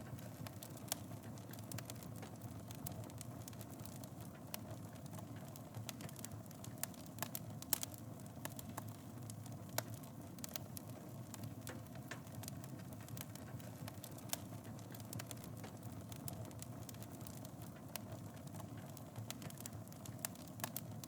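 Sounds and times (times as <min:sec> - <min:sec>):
fire crackles and pops: 0:00.0 - 0:21.0
fire low rumble: 0:00.0 - 0:21.0.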